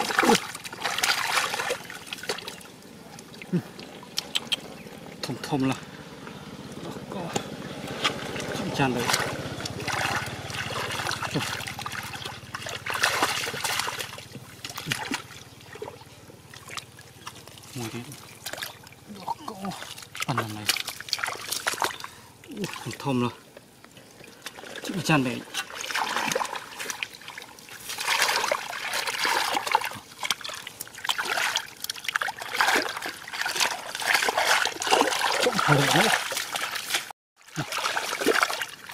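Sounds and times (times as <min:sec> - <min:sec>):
muddy water splashing: 0:00.0 - 0:38.9.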